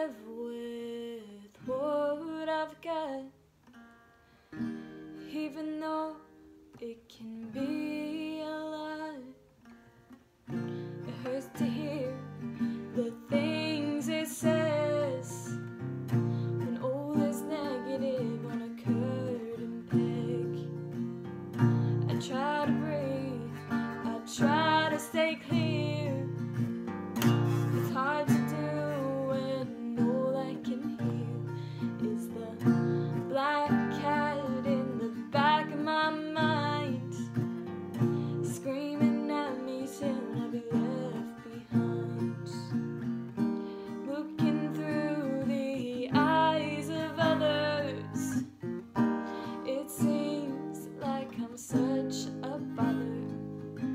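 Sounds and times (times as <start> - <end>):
woman singing: 0.0 - 3.4, 5.1 - 9.4, 10.6 - 53.9
strummed acoustic guitar: 0.0 - 6.6, 7.2 - 53.9.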